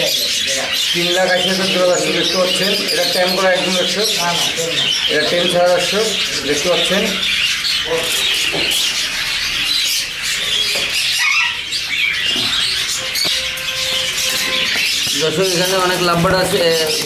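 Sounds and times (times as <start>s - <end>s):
parrots chirping and squawking: 0.0s - 17.0s.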